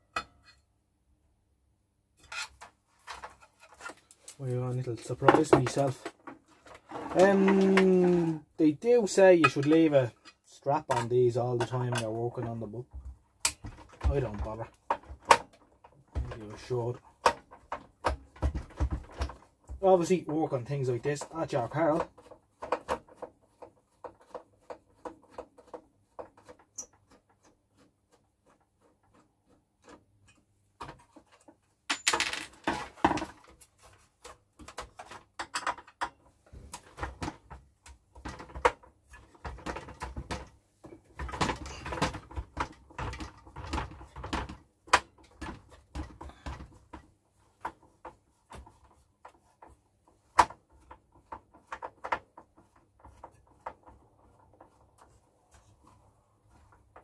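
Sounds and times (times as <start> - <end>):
clicks taps and rustles: 2.2 - 57.0.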